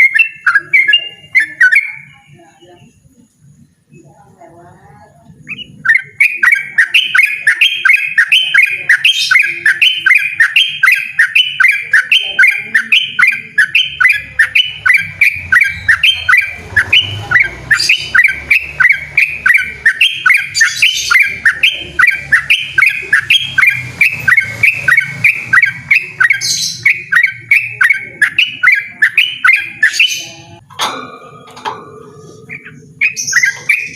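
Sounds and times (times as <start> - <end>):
bulbul singing rolling song: 0.0 - 33.9.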